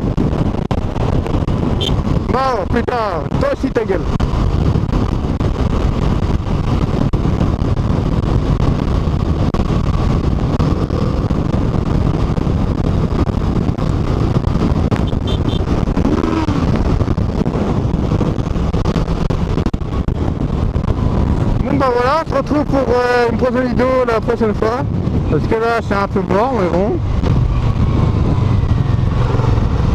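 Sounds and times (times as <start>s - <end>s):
motorcycle engine running: 0.0s - 2.7s, 4.0s - 29.9s
wind rushing on microphone: 0.0s - 29.9s.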